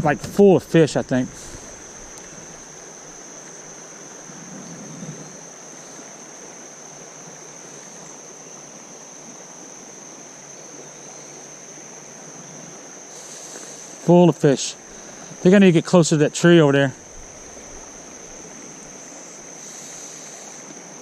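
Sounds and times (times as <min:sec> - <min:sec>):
creek water over rocks: 0:00.0 - 0:21.0
crickets droning: 0:00.0 - 0:21.0.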